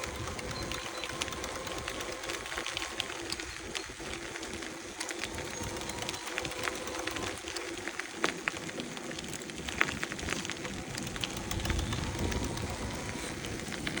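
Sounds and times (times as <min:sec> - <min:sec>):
e-bike motor clicking: 0:00.0 - 0:14.0.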